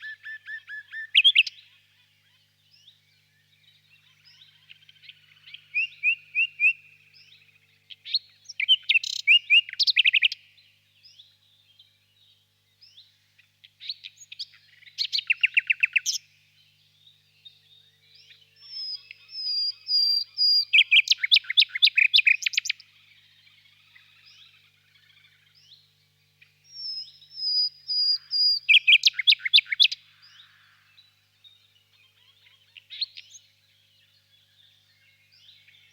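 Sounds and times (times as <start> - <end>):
nightingale singing: 0.0 - 35.9.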